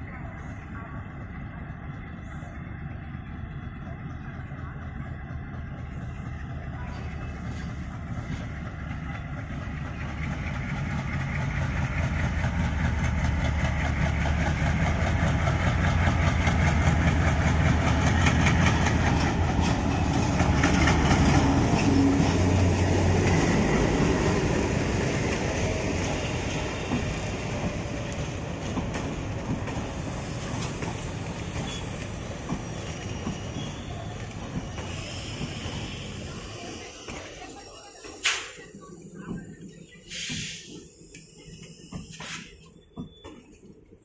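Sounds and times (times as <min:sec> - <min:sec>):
diesel locomotive rumble: 0:00.0 - 0:44.0
train wheels clickety-clack: 0:03.7 - 0:43.8.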